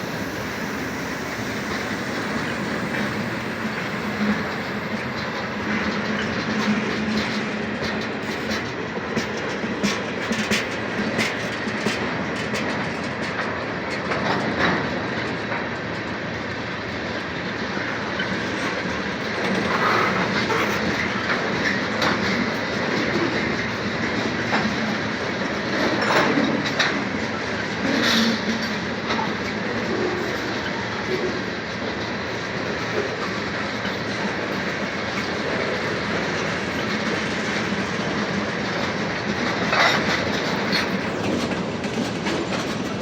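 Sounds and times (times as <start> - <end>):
freight train wheels rumbling: 0.0 - 43.0.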